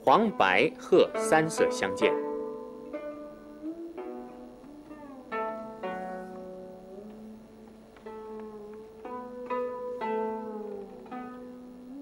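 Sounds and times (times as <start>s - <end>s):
slow plucked string music: 0.0s - 12.0s.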